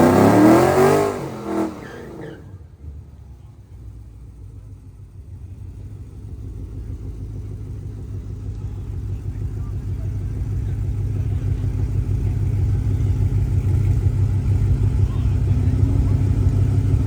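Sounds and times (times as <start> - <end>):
low engine rumble: 0.0 - 17.0
racing car engine at full throttle: 0.0 - 17.0.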